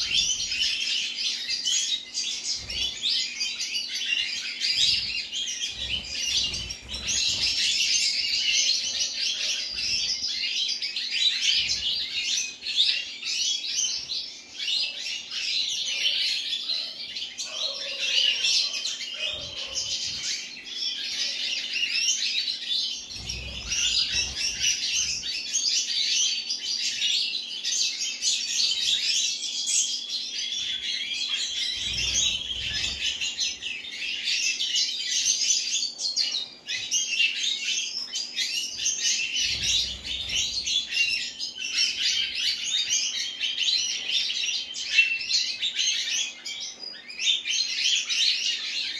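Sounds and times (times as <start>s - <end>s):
goldfinches twittering song: 0.0s - 48.9s.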